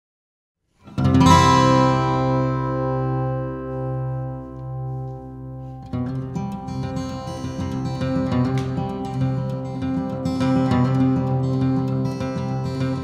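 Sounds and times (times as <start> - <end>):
guitar chord strummed: 0.9 - 13.0.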